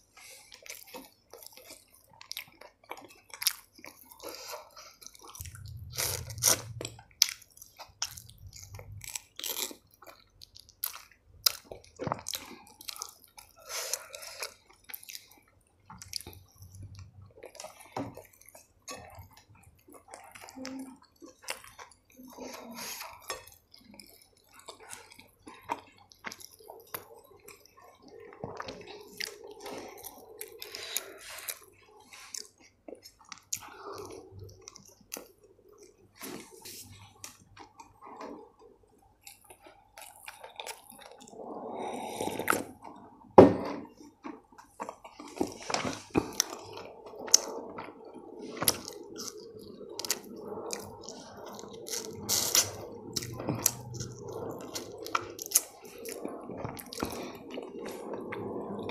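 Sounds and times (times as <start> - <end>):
chewing and mouth sounds: 0.0 - 58.9.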